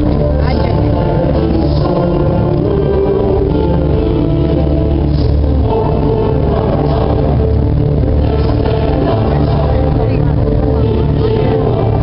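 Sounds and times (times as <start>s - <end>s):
music with slow held notes: 0.0s - 12.0s
steady low bass: 0.0s - 12.0s.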